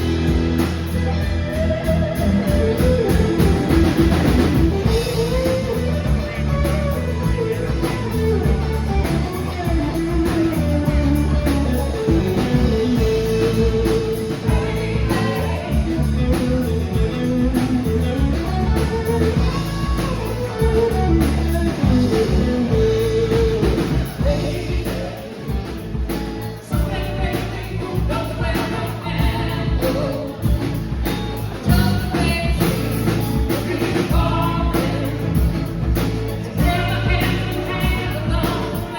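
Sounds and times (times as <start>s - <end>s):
bass: 0.0s - 38.9s
drums: 0.0s - 38.9s
electric guitar: 0.0s - 38.9s.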